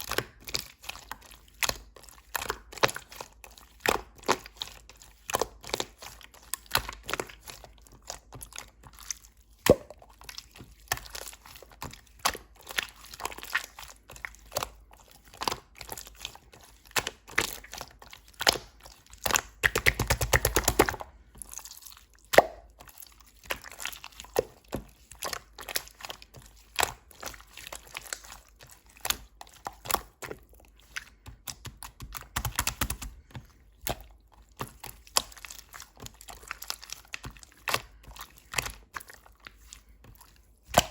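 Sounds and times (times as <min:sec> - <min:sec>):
slime squished by hand: 0:00.0 - 0:40.9.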